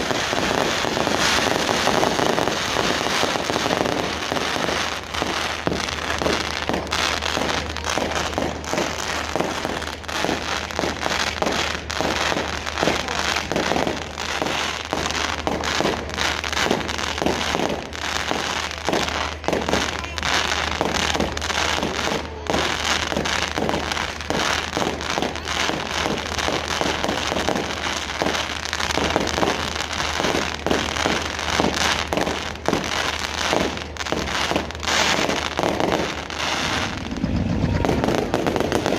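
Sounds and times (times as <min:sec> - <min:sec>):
fireworks crackling and banging: 0:00.0 - 0:38.9.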